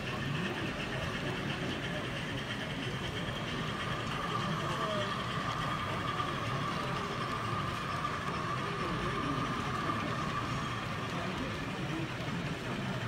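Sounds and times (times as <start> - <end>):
model train humming and whining: 0.0 - 13.0.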